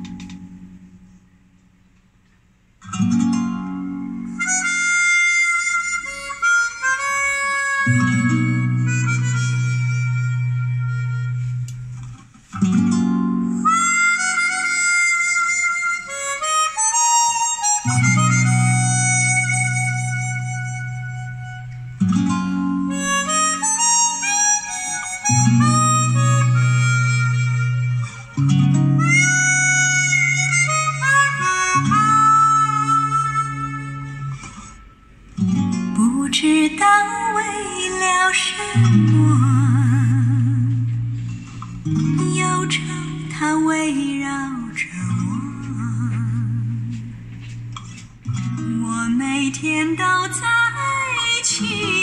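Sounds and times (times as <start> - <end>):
guitar strumming: 0.0 - 1.8, 2.8 - 52.0
harmonica notes: 3.0 - 35.4, 36.7 - 52.0.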